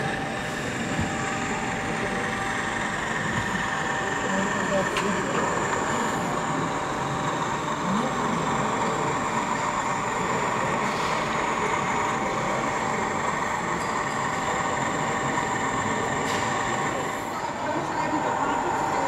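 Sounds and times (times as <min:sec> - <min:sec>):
hubbub of exhibition hall: 0:00.0 - 0:19.0
model locomotive running: 0:00.0 - 0:19.0.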